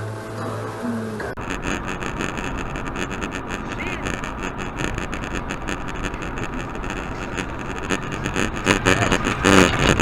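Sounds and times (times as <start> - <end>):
car engine and road noise: 1.3 - 10.0.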